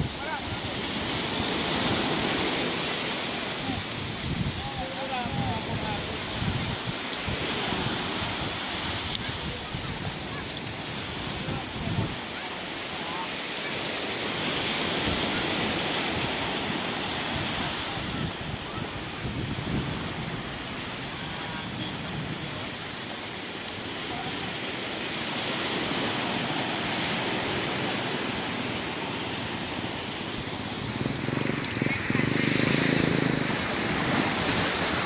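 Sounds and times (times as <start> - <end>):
sea surf washing onto beach: 0.0 - 35.0.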